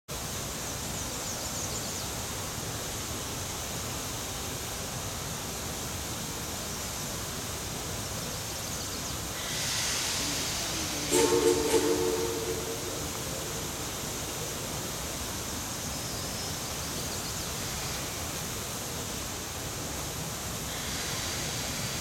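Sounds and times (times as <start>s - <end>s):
steam locomotive venting steam: 2.5s - 22.0s.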